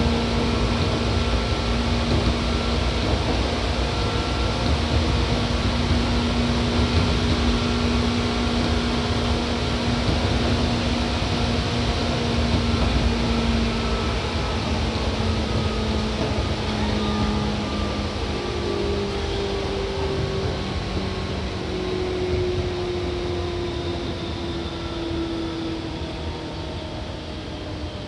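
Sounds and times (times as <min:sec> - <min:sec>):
train rolling noise inside car: 0:00.0 - 0:28.0.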